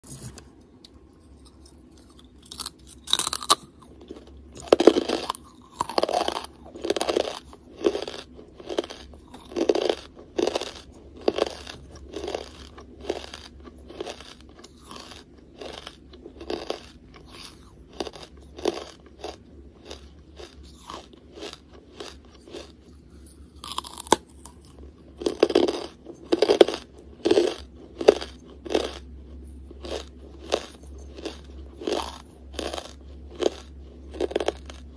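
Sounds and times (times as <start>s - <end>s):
chewing crunches: 1.2s - 34.9s
charcoal crunching bite: 1.3s - 22.7s, 23.6s - 29.1s, 29.8s - 34.9s.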